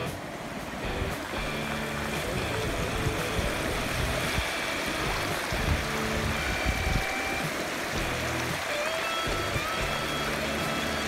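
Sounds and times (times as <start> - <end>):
water rushing over concrete: 0.0 - 11.0.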